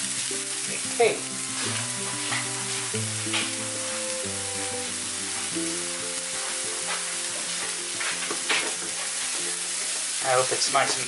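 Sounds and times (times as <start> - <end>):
soft background music: 0.0 - 11.0
vegetables sizzling in frying pan: 0.0 - 11.0.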